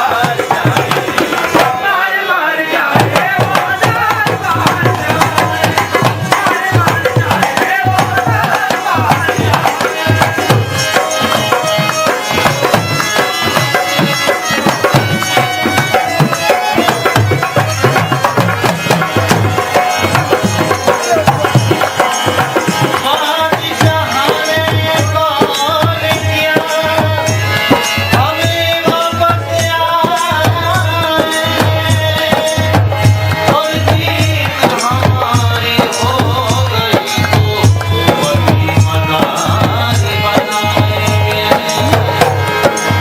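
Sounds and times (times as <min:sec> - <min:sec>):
hand drum rhythm: 0:00.0 - 0:02.0, 0:02.9 - 0:43.0.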